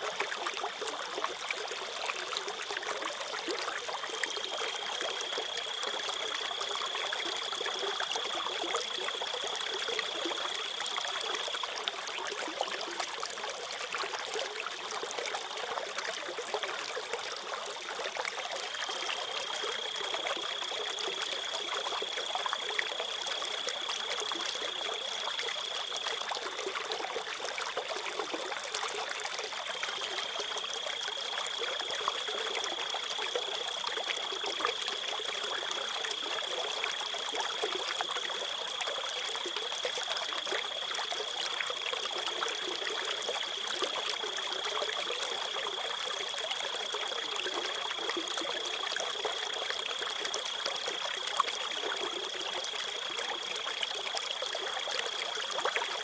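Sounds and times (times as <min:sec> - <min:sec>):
stream trickling and babbling: 0:00.0 - 0:56.0.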